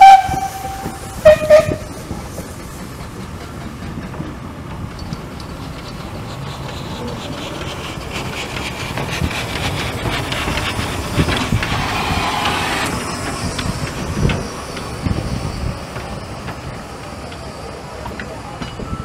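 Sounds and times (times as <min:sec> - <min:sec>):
steam hiss: 0:00.0 - 0:19.0
steam train rolling past: 0:00.0 - 0:19.0.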